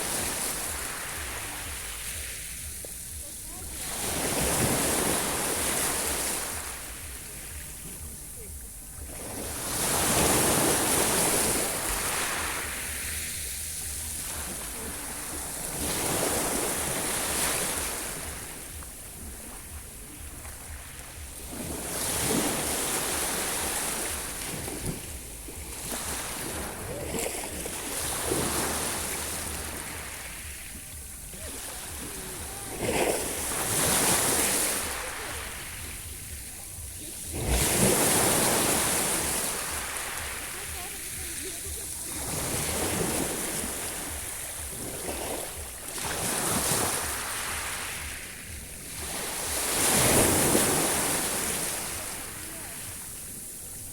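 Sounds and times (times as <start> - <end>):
sea waves breaking: 0.0 - 53.9.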